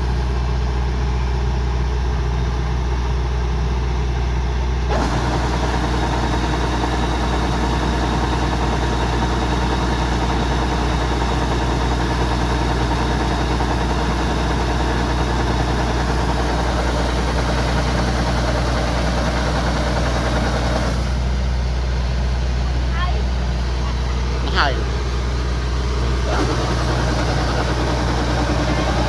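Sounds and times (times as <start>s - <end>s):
combine harvester engine running: 0.0s - 29.0s.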